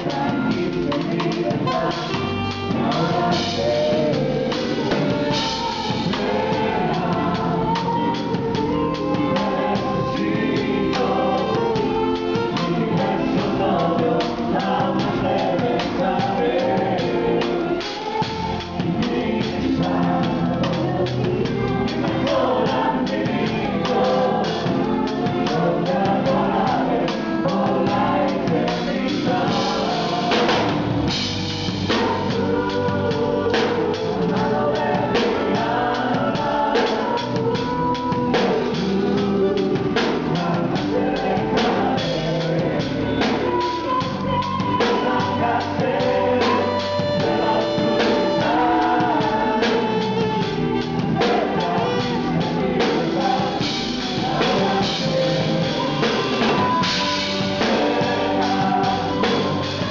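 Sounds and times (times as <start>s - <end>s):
drum kit and cymbals: 0.0s - 59.9s
live band playing: 0.0s - 59.9s.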